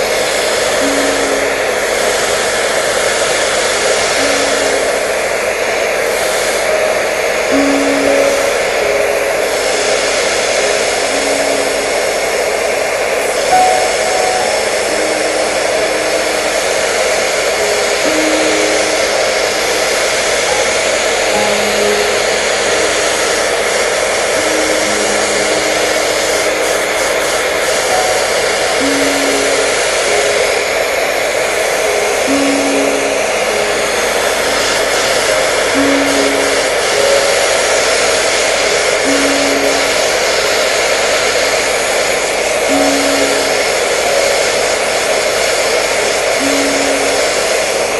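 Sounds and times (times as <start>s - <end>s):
hair dryer blowing: 0.0s - 47.9s
slow simple melody: 0.0s - 47.9s.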